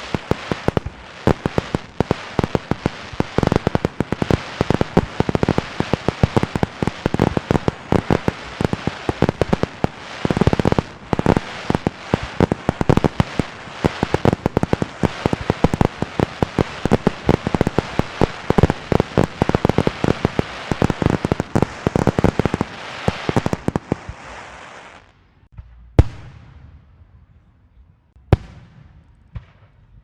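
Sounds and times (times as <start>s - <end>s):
firecrackers popping: 0.0s - 25.2s.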